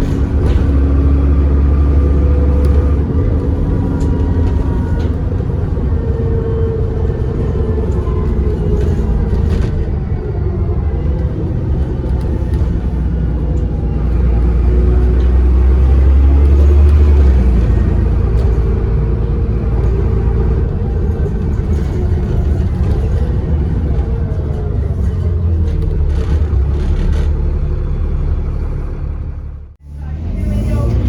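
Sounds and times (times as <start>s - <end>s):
bus diesel engine rumble: 0.0s - 31.0s.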